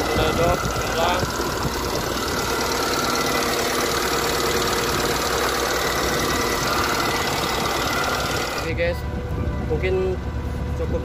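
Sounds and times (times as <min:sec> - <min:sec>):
diesel excavator engine running: 0:00.0 - 0:09.6.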